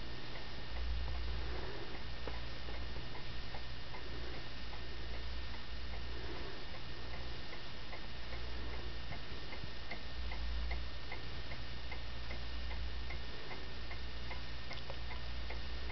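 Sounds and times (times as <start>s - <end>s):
clock ticking: 0.0s - 15.9s
low hum: 0.0s - 15.9s.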